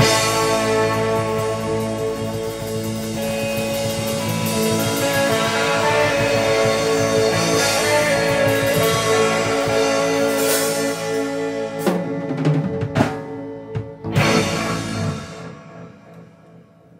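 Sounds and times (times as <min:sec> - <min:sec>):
drum and cymbal hits: 0:00.0 - 0:15.5
rock band playing: 0:00.0 - 0:16.9.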